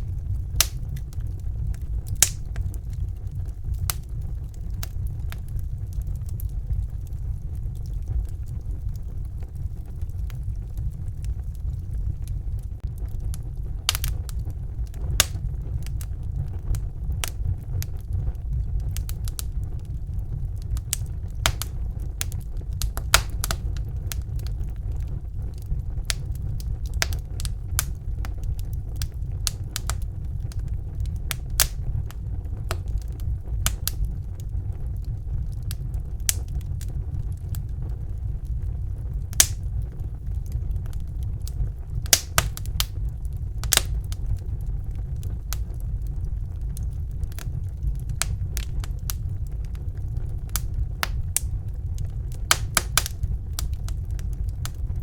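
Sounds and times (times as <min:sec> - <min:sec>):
sharp fire pops: 0:00.0 - 0:55.0
steady low rumble: 0:00.0 - 0:55.0
wood fire crackling: 0:00.0 - 0:55.0.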